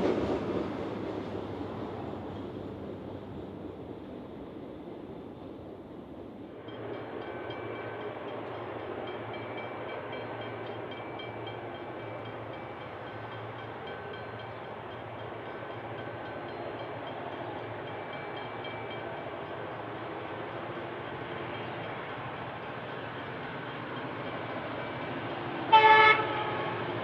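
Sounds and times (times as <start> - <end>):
distant locomotive engine drone: 0.0 - 27.0.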